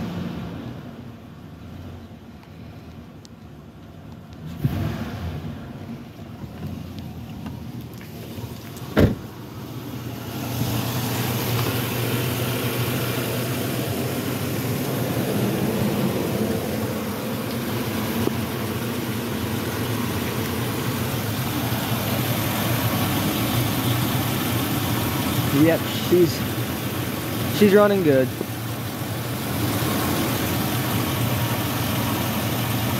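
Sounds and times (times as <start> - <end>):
truck engine idling: 5.8 - 32.9.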